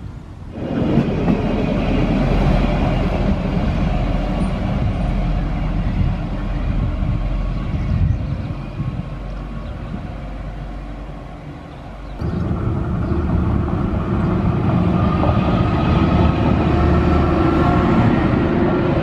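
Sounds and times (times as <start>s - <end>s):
train rumbling past: 0.0s - 19.0s
train pulling away: 0.5s - 19.0s.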